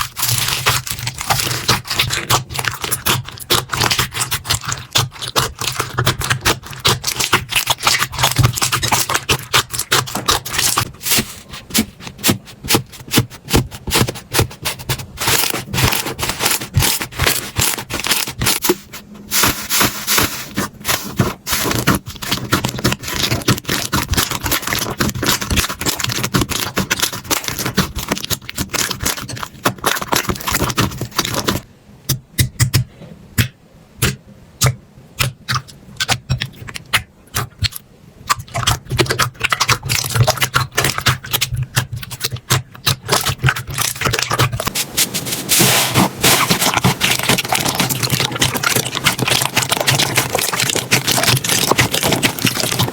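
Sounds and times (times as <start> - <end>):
slime crackling and popping: 0.0 - 18.8, 19.4 - 31.6, 35.2 - 52.9.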